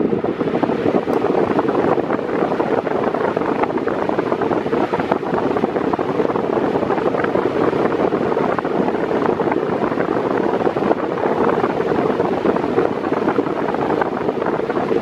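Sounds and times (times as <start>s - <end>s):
fan airflow on microphone: 0.0s - 15.0s
floor fan rush of air: 0.0s - 15.0s.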